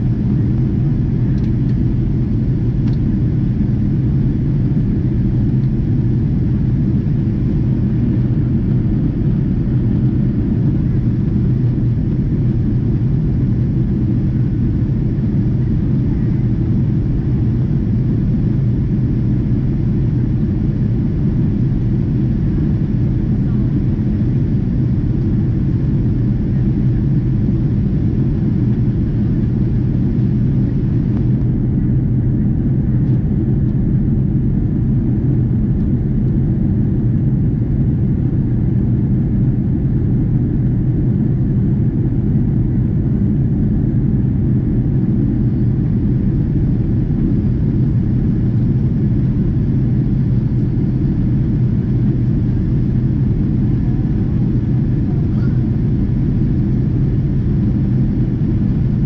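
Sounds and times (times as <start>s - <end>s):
airflow over fuselage: 0.0s - 59.0s
jet engines droning: 0.0s - 59.0s.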